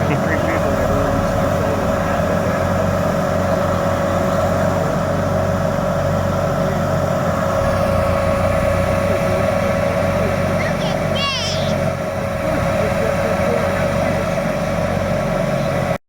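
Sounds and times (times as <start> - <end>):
mid-pitched hum: 0.0 - 15.0
car engine and road rumble: 0.0 - 16.0.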